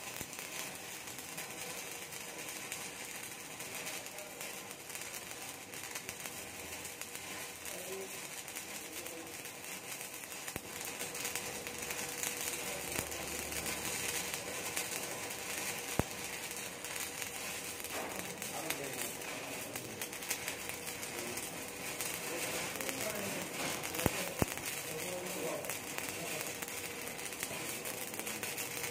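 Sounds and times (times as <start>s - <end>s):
welding arc crackling: 0.0s - 28.9s.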